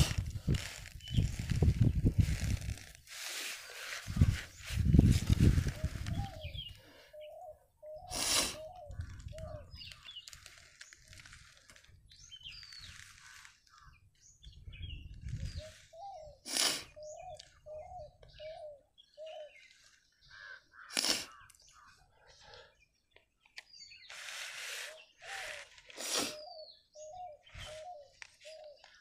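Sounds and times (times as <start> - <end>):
birds calling: 2.8 - 29.0.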